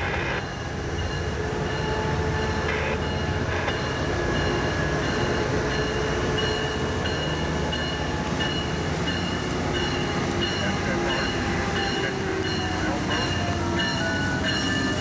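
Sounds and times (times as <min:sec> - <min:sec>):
train engine low rumble: 0:00.0 - 0:15.0.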